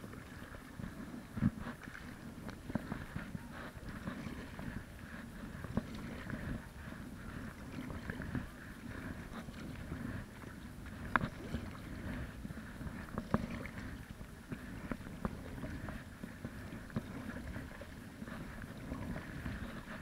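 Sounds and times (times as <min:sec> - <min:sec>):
paddle strokes in water: 0:00.0 - 0:20.0
water lapping at board: 0:00.0 - 0:20.0.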